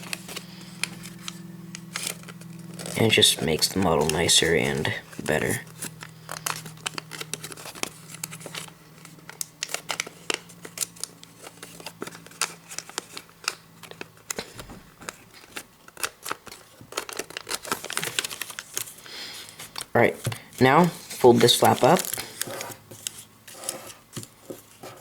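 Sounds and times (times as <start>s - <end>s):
paper being folded and creased: 0.0s - 25.0s.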